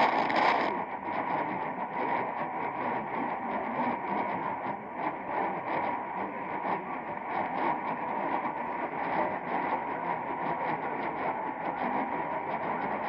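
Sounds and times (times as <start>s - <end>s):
radio static crackling: 0.0s - 13.0s.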